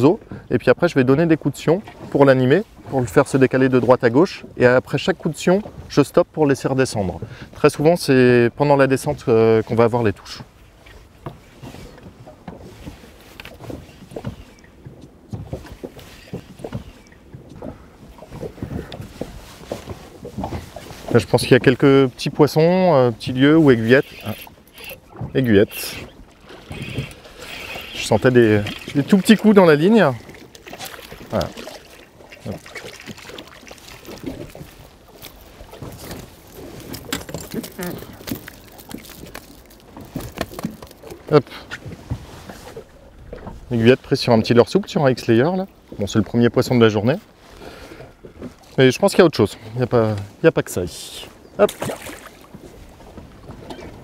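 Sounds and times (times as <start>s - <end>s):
small waves lapping against boat hull: 0.0s - 54.0s.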